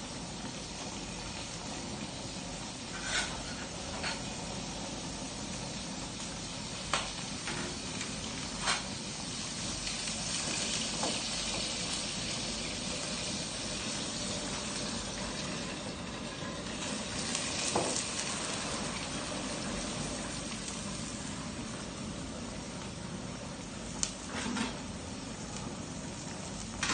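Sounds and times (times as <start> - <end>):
food sizzling in a wok: 0.0 - 26.9
gas burner hissing: 0.0 - 26.9.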